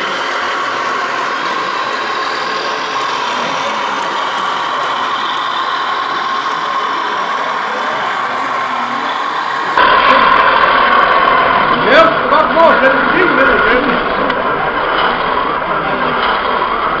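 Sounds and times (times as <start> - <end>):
model truck motor humming: 0.0 - 17.0.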